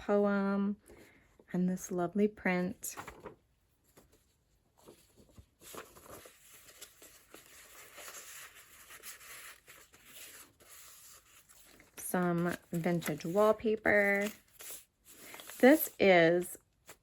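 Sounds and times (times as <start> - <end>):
paper pages rustling: 3.0 - 17.0.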